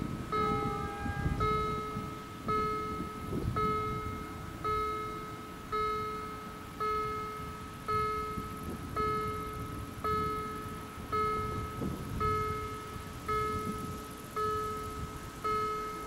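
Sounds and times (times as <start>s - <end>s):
level crossing bell ringing: 0.3s - 16.0s.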